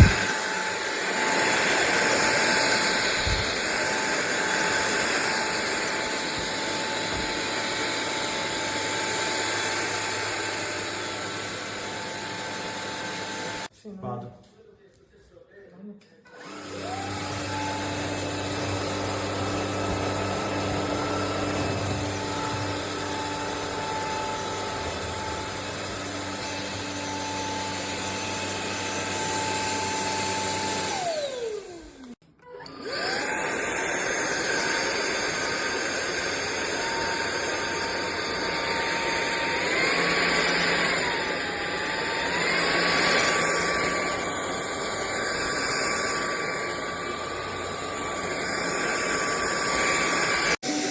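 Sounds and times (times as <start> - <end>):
vacuum cleaner motor whine: 0.0 - 13.7, 16.3 - 50.9.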